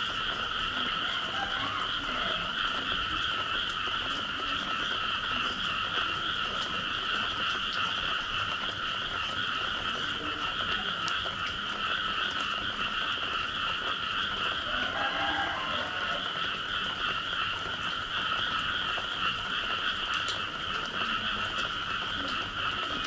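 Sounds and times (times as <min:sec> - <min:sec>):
faint water drips: 0:00.0 - 0:23.0
frogs calling: 0:00.0 - 0:23.0.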